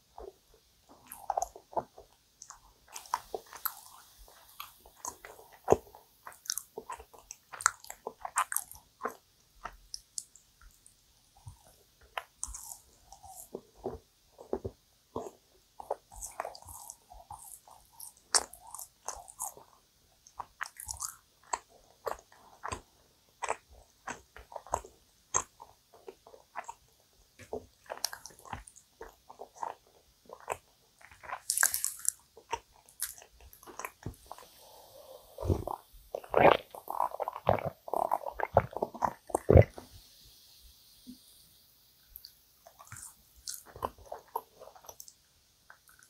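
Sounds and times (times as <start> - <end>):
sticky wet chewing: 0.0 - 34.7, 35.3 - 39.9, 42.2 - 46.0.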